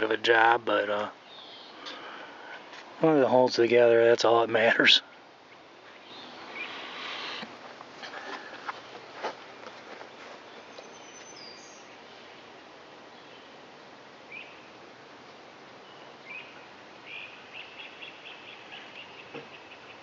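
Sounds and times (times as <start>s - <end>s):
birds chirping and trilling: 0.0s - 8.9s, 9.6s - 14.8s, 15.8s - 20.0s
outdoor background noise: 0.0s - 20.0s.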